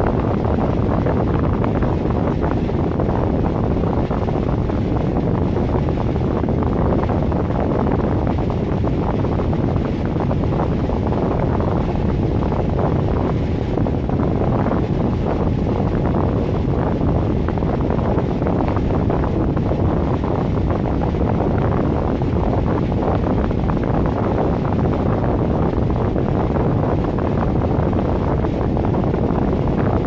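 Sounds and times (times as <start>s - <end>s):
furnace blower running: 0.0s - 30.0s.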